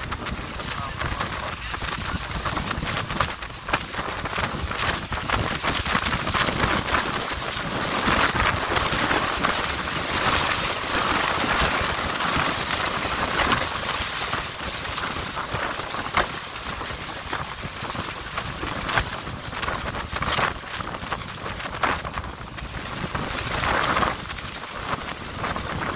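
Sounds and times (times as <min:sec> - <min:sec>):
water rushing: 0:00.0 - 0:25.9
wind buffeting microphone: 0:00.0 - 0:25.9
wind rushing: 0:00.0 - 0:25.9.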